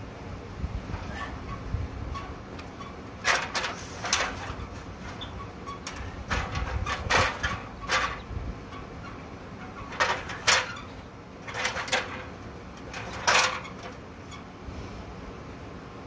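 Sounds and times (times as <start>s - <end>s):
metal ladder clanking: 1.0s - 14.5s.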